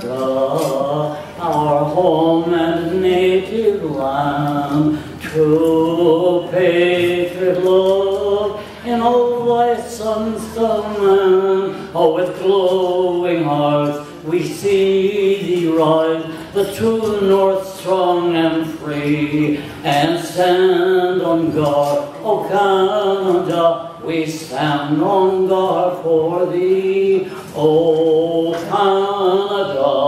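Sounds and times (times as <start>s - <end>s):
man singing into a microphone: 0.0s - 30.0s.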